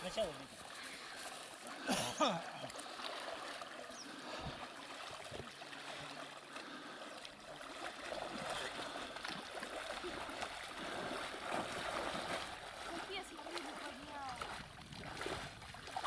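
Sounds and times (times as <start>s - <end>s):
faint water noise: 0.0s - 16.0s
small splashes: 0.0s - 16.0s.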